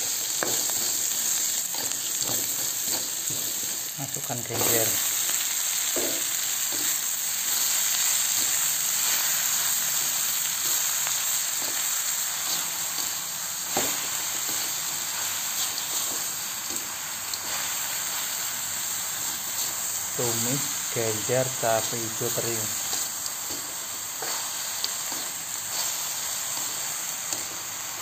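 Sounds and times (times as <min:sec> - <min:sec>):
greens sizzling in oil: 0:00.0 - 0:28.0.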